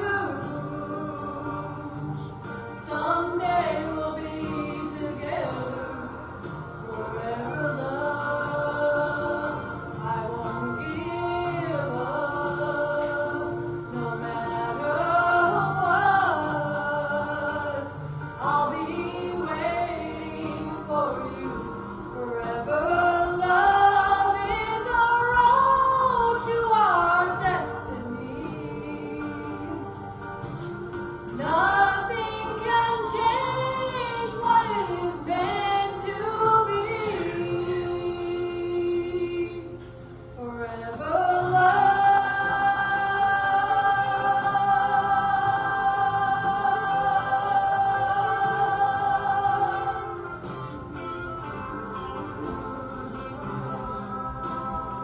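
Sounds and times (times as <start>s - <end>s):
instrumental backing: 0.0s - 55.0s
woman singing country ballad: 0.0s - 55.0s.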